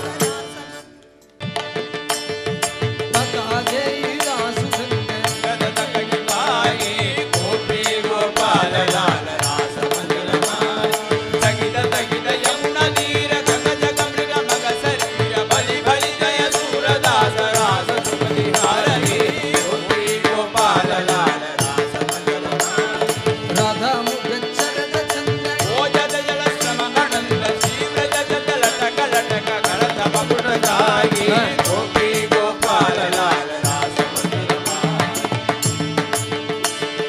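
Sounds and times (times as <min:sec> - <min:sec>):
hand percussion beat: 0:00.0 - 0:00.8, 0:01.4 - 0:37.0.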